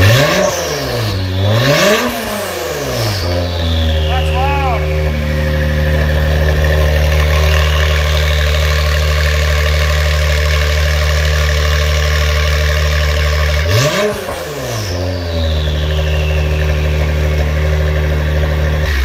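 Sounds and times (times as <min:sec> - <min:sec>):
car engine idling: 0:00.0 - 0:19.0
engine rev blip: 0:00.0 - 0:19.0.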